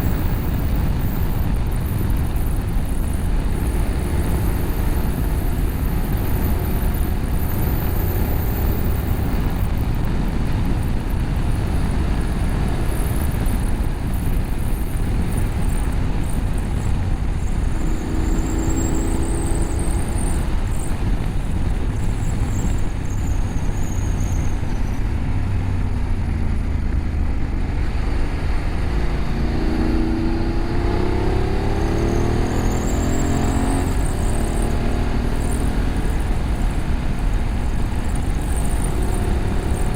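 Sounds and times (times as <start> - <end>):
motorcycle engine running: 0.0 - 39.9
road noise: 0.0 - 39.9
wind rush: 0.0 - 39.9.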